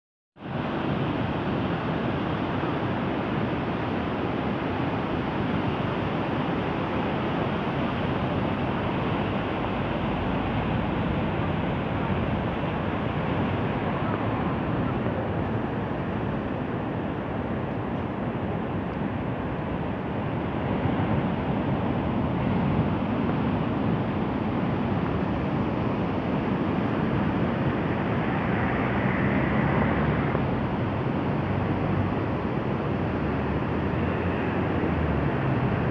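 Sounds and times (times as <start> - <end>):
waves breaking: 0.4 - 35.9.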